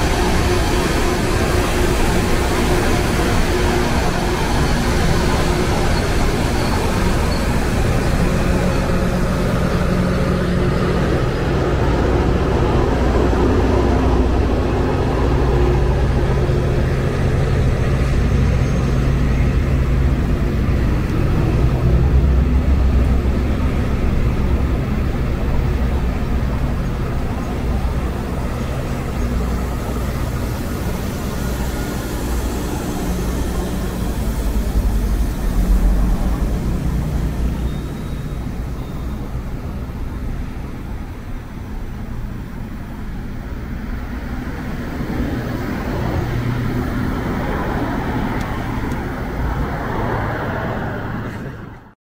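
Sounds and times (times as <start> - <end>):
diesel train rumbling past: 0.0 - 52.0.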